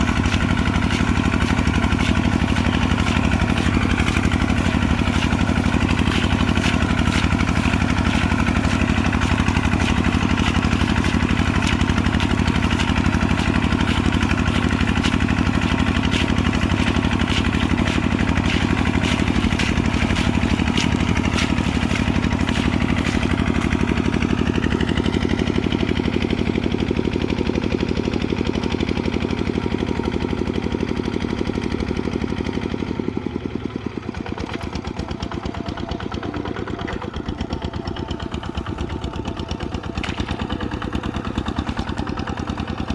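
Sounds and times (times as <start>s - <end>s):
diesel engine chugging: 0.0s - 42.9s.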